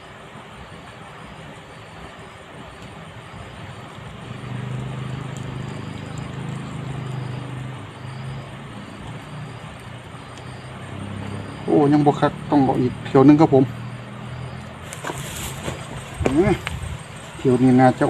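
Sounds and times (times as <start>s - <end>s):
steady hiss: 0.0s - 10.9s, 11.7s - 18.0s
vehicle engine hum passing: 0.0s - 18.0s.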